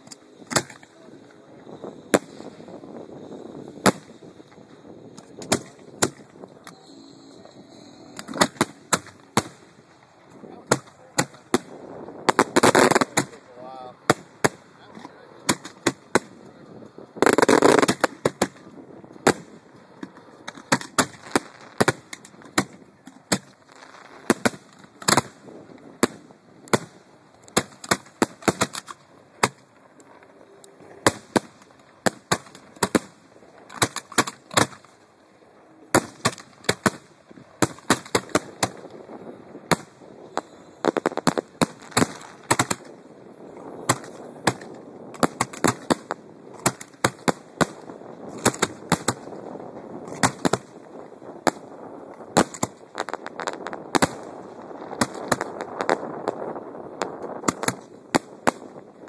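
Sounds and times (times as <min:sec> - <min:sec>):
fireworks bangs: 0:00.0 - 0:35.0, 0:35.9 - 0:59.0.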